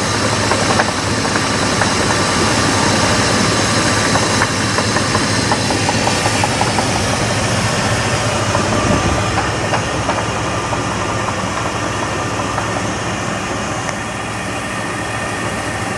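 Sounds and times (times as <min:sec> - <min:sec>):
engine ticking knock: 0:00.0 - 0:14.2
car engine idling: 0:00.0 - 0:15.9.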